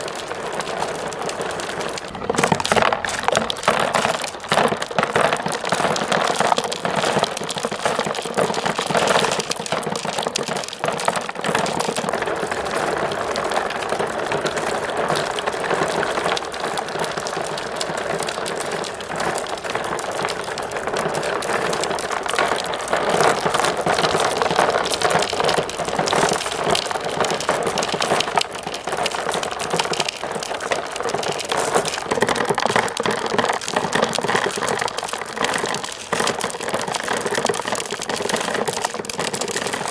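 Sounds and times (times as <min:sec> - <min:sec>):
marbles rattling down plastic run: 0:00.0 - 0:39.9.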